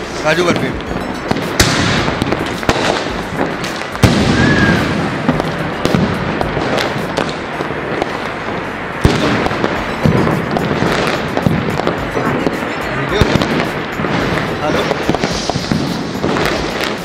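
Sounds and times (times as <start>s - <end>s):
firecrackers crackling: 0.0s - 17.0s
loud sharp firecracker bangs: 0.0s - 17.0s.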